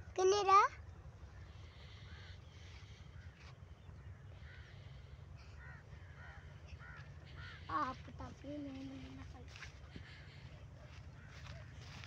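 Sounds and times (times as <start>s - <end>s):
bird calling faintly: 1.2s - 12.0s.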